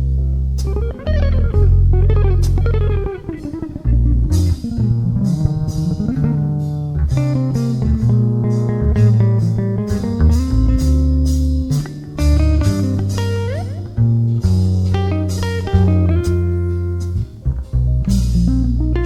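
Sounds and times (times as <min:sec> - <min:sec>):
electric guitar bending notes: 0:00.0 - 0:19.0
instrumental rock music: 0:00.0 - 0:19.0.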